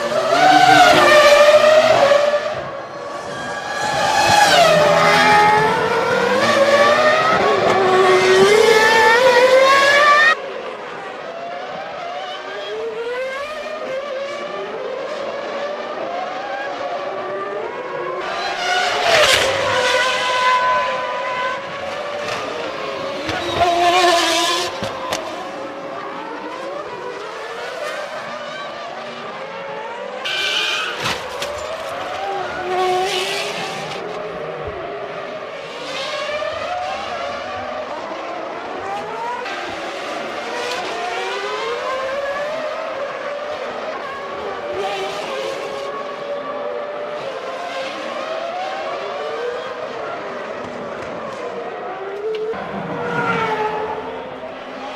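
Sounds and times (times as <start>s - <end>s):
racing car engines revving: 0.0s - 54.9s.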